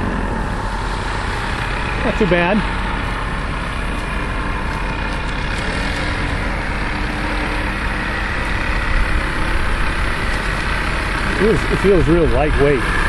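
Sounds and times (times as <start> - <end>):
model plane engines running: 0.0 - 13.0.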